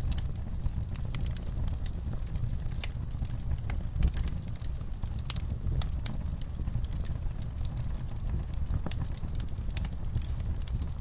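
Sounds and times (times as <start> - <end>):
sharp snaps of fire: 0.0 - 11.0
wood fire crackling: 0.0 - 11.0.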